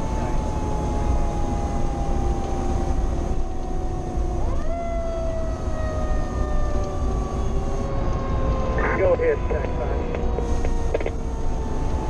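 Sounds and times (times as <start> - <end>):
mechanical siren winding down: 0.0 - 8.8, 9.4 - 12.0
fire engine motor rumble: 0.0 - 12.0
road noise: 0.0 - 12.0.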